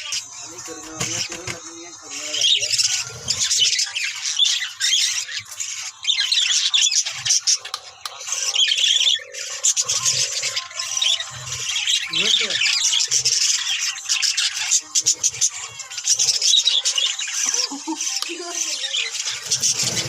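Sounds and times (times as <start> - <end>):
budgerigars chattering and squawking: 0.0 - 20.0.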